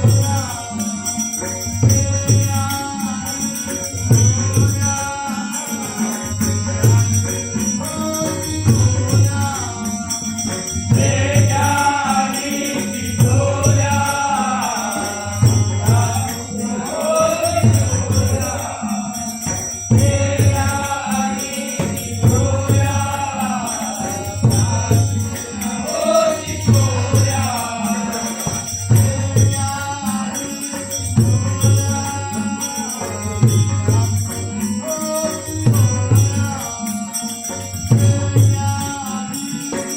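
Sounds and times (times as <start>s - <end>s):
jingling hand cymbals: 0.0s - 39.9s
person singing devotional song: 0.0s - 39.9s.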